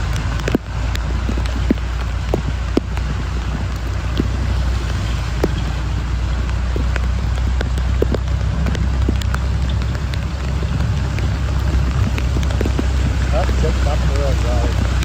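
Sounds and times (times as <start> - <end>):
heavy rain: 0.0 - 15.0
low rumble: 0.0 - 15.0
raindrops ticking on microphone: 0.0 - 15.0.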